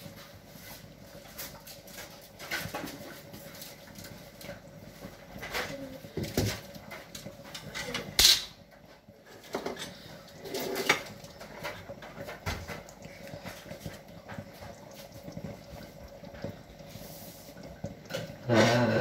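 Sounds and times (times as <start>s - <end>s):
thick sauce simmering in a pot: 0.0s - 19.0s.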